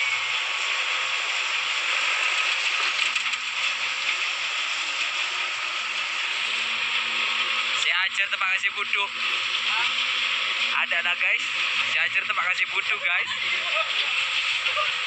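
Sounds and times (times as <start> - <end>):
excavator clattering and rattling: 0.0 - 7.4, 8.6 - 15.0.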